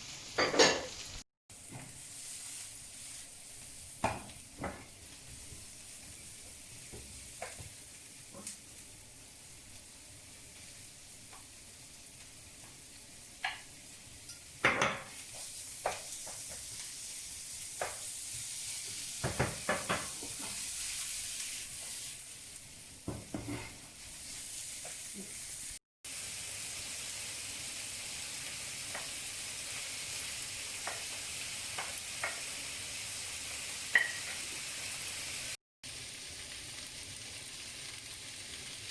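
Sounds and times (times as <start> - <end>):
food sizzling in a wok: 0.0 - 38.9.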